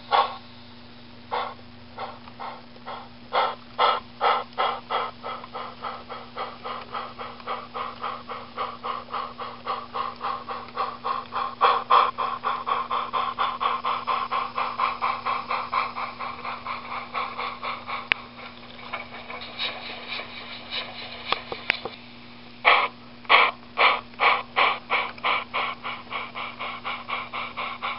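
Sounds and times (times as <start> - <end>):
model steam locomotive chuffing: 0.0 - 0.6, 1.3 - 27.9.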